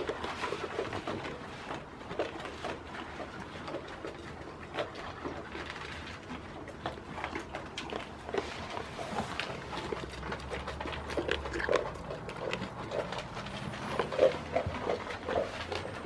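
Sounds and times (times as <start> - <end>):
goats crunching dry feed: 0.0 - 16.0.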